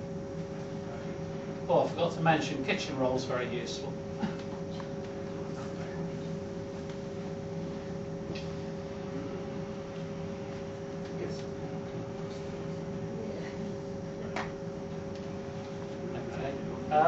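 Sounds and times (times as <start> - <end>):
steady two-tone hum: 0.0 - 17.0.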